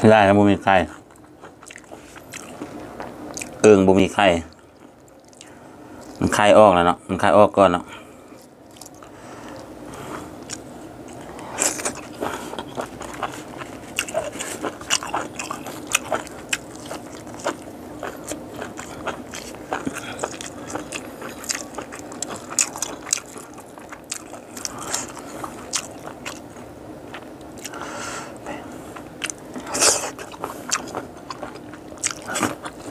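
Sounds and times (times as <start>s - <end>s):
chewing with crisp crunches: 0.8s - 3.7s, 4.5s - 6.4s, 8.2s - 32.9s.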